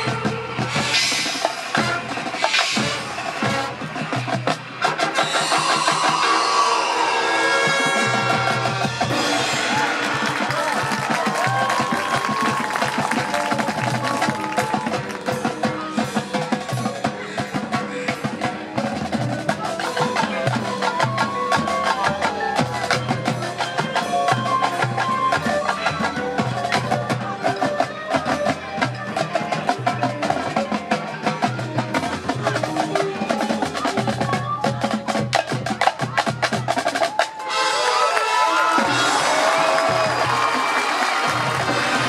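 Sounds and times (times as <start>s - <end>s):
brass and woodwind notes: 0.0s - 18.4s, 19.0s - 35.2s, 36.5s - 42.0s
drumline percussion strikes: 0.0s - 42.0s.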